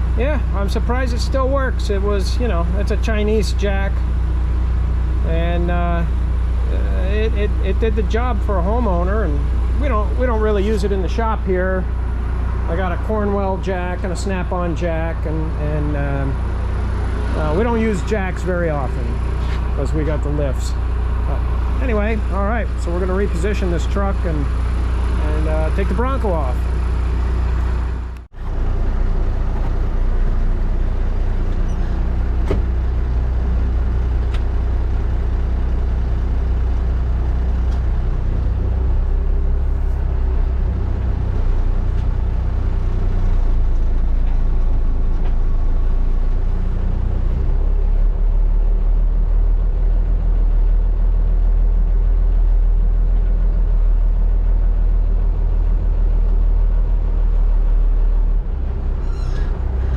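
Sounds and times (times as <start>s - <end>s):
tow truck engine rumbling: 0.0s - 59.9s.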